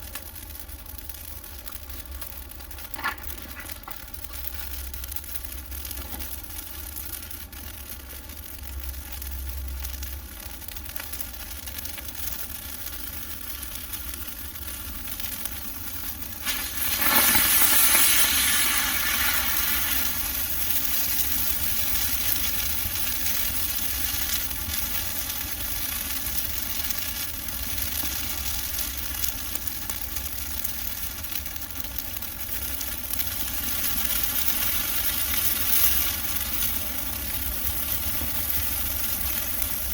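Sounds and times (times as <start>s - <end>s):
bonfire crackling and hissing: 0.0s - 39.9s.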